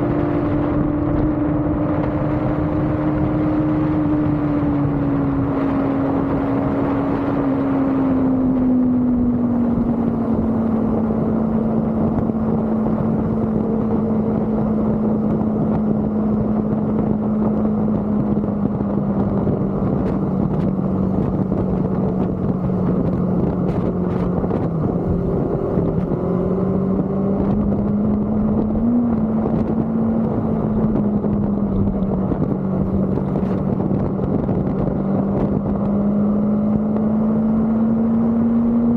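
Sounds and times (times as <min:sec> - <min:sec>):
motorcycle engine cruising: 0:00.0 - 0:38.9
wind noise: 0:00.0 - 0:38.9.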